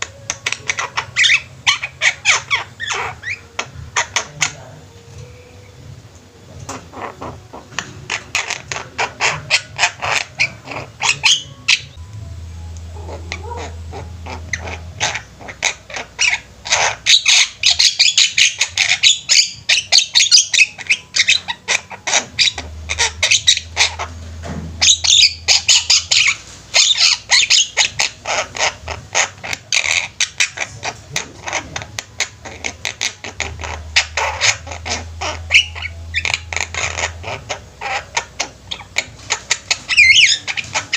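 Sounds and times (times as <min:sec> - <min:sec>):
mynas squawking and chattering: 0:00.0 - 0:12.0, 0:12.9 - 0:40.9.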